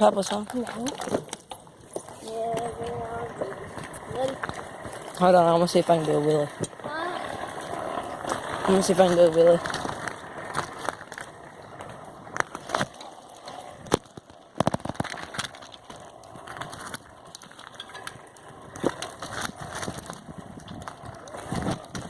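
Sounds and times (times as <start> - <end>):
bicycle rattling over rough ground: 0.0 - 22.0
steady rustle: 0.0 - 22.0.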